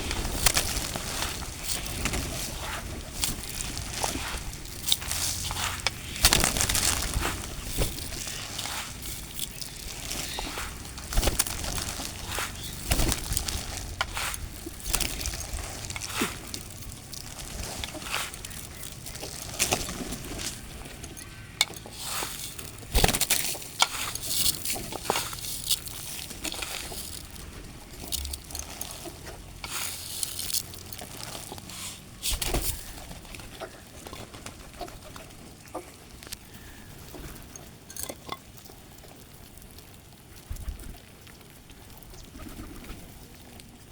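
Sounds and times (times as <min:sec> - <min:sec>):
birds pecking at grain: 0:00.0 - 0:43.9.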